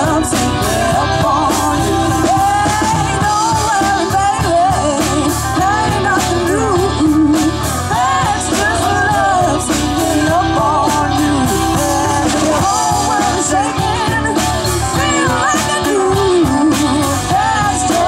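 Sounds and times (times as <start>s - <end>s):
live rock band: 0.0s - 18.0s
woman and man singing: 0.0s - 18.0s.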